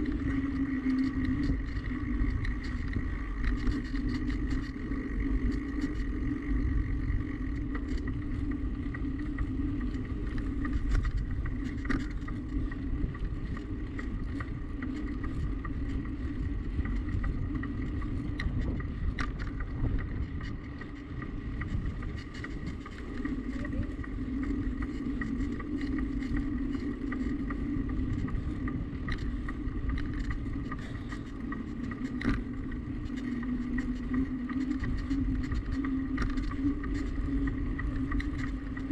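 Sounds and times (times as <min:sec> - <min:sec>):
small clicks and rattles: 0:00.0 - 0:38.9
steady bike hum: 0:00.0 - 0:38.9
wind rumbling on microphone: 0:00.0 - 0:38.9.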